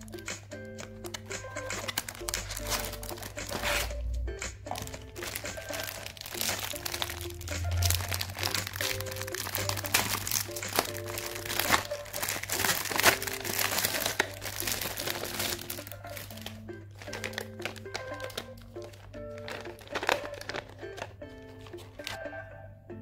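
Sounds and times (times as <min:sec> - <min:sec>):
simple background music: 0:00.0 - 0:23.0
plastic crinkling and crackling: 0:00.8 - 0:04.1, 0:04.7 - 0:22.2.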